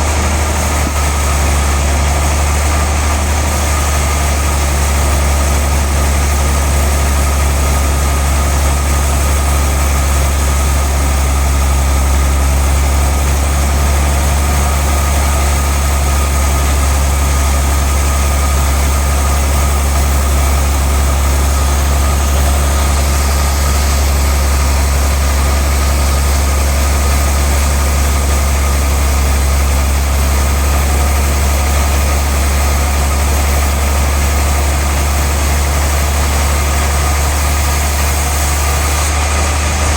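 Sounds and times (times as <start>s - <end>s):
machinery high whine: 0.0s - 39.9s
sawmill machinery hum: 0.0s - 39.9s.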